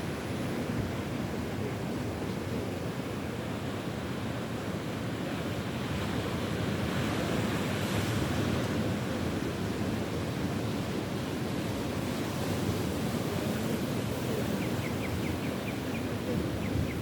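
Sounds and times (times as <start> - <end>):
sea waves washing onto beach: 0.0 - 17.0.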